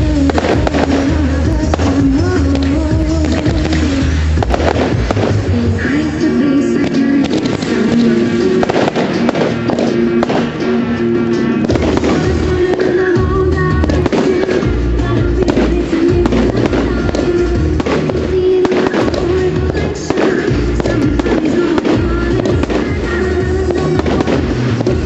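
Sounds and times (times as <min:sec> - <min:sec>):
fireworks banging and crackling: 0:00.0 - 0:25.0
music over loudspeakers: 0:00.0 - 0:25.0.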